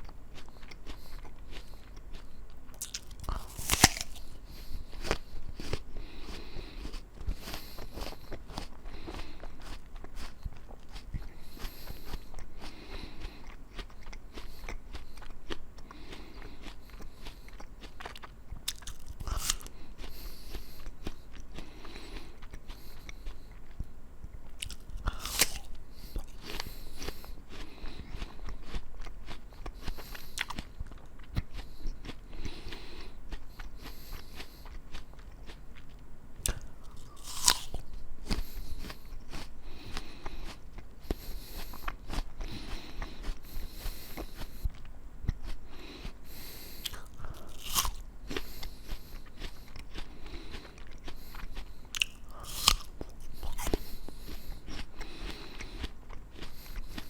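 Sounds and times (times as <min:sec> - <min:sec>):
crunching apple bites: 0:00.0 - 0:57.0
wet chewing: 0:00.0 - 0:57.0.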